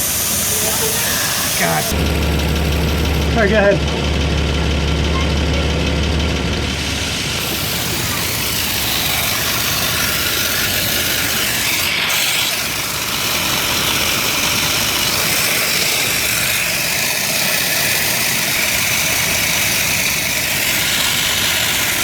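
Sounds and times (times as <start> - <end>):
car engine idling: 0.0 - 22.0
exhaust leak hissing: 0.0 - 22.0.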